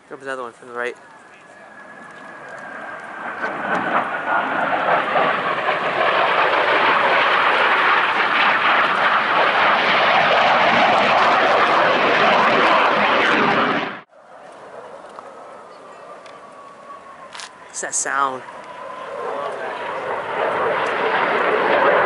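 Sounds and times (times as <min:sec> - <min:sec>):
jet engine whine: 0:00.0 - 0:22.0
jet flying past: 0:00.0 - 0:22.0.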